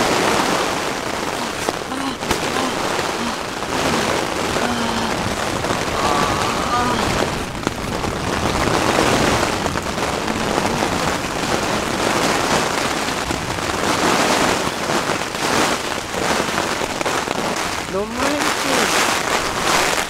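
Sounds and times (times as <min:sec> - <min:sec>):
heavy rain on tent fabric: 0:00.0 - 0:20.0.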